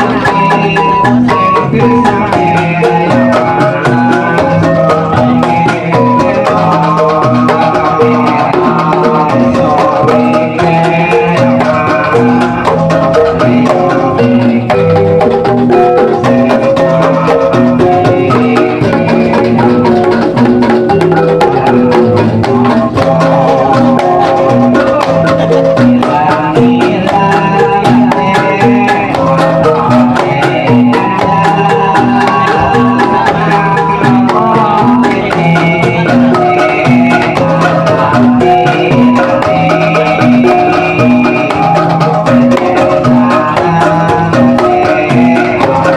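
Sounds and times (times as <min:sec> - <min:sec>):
drums: 0:00.0 - 0:45.9
metallophones and gongs ringing: 0:00.0 - 0:45.9.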